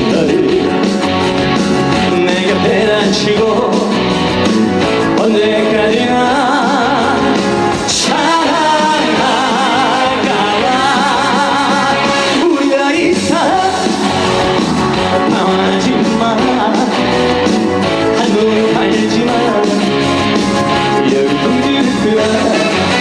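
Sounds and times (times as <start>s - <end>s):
band accompaniment: 0.0s - 23.0s
person singing with vibrato: 0.0s - 23.0s.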